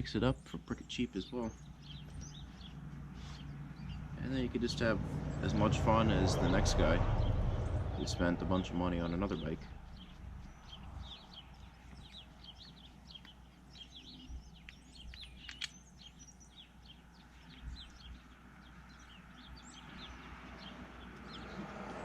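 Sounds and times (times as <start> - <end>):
faint birdsong chirps: 0.0 - 22.0.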